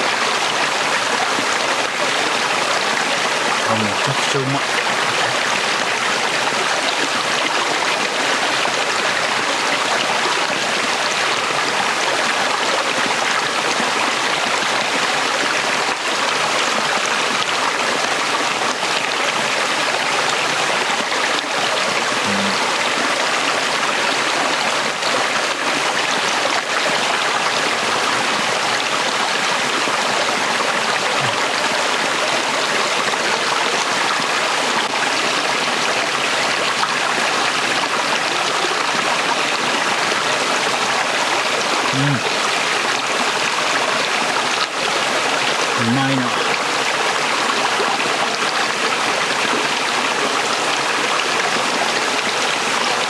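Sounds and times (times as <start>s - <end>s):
stream flowing over stones: 0.0s - 53.0s.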